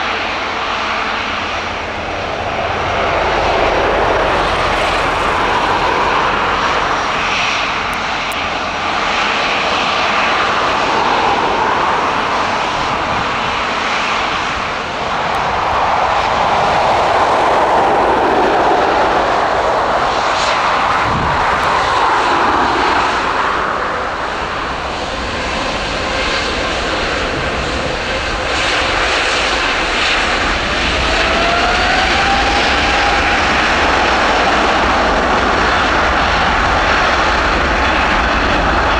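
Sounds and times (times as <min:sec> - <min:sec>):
jet engines running loud: 0:00.0 - 0:38.9.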